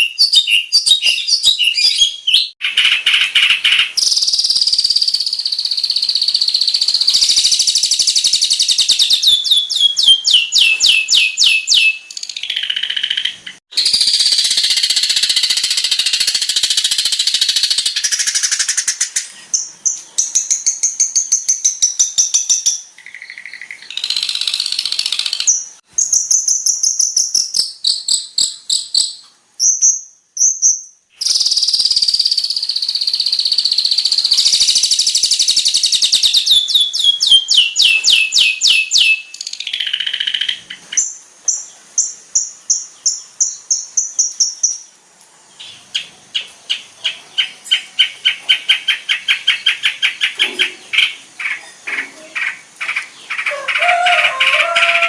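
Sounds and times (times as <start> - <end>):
shrike singing varied song: 0.0 - 45.0, 45.6 - 55.0.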